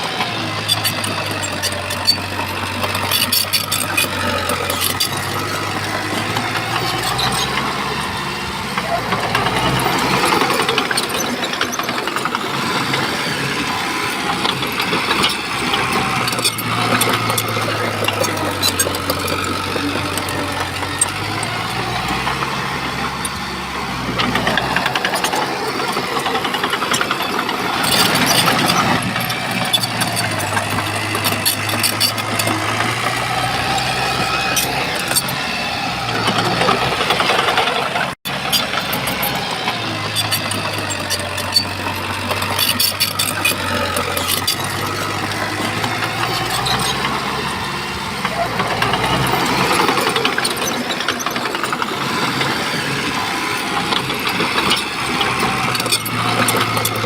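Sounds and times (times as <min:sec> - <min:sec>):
bulldozer diesel engine: 0:00.0 - 0:57.0
knocks and clatter of tracks: 0:00.0 - 0:57.0.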